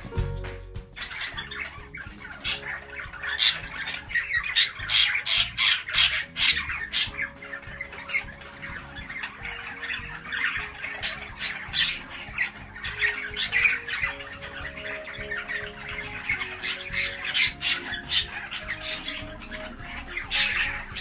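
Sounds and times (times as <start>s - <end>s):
budgerigars chattering and squawking: 1.0s - 21.0s.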